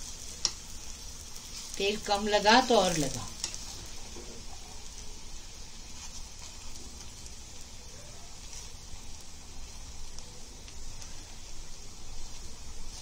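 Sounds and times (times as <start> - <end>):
flatbread sizzling in oil: 0.0 - 13.0.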